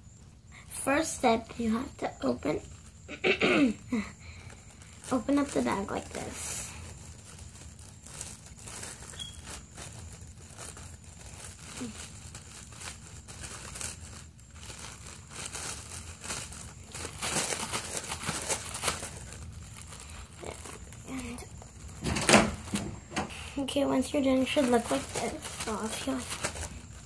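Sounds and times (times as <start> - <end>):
plastic bag crinkling: 1.4 - 3.1, 3.9 - 27.0.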